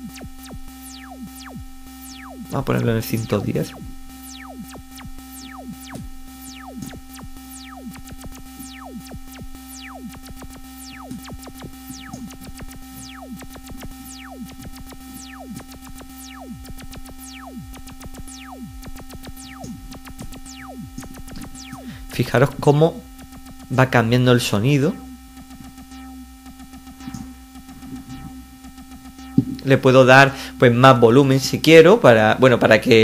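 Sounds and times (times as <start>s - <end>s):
falling electronic zaps: 0.0s - 31.0s
held synthesizer tone: 0.0s - 31.4s.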